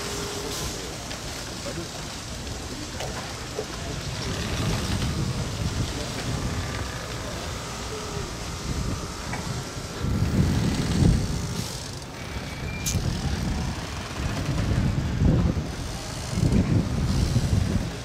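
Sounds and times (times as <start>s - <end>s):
wind buffeting microphone: 2.5s - 18.0s.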